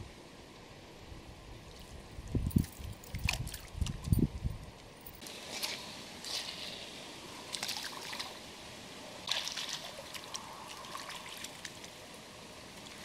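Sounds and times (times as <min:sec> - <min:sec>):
water splashing and trickling: 0:01.6 - 0:13.0.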